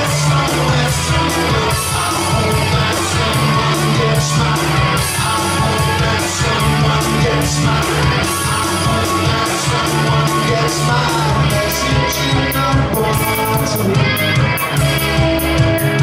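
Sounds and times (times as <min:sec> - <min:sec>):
man singing: 0:00.0 - 0:14.8
electric guitar: 0:00.0 - 0:16.0.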